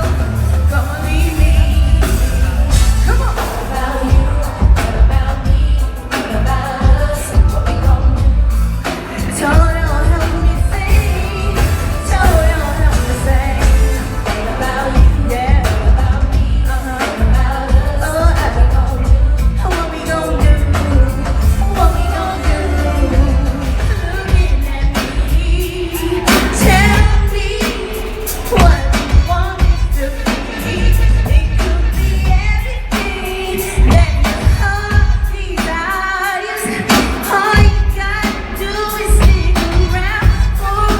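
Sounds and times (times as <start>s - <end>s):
band with heavy bass beat: 0.0s - 40.9s
person singing: 0.0s - 40.9s.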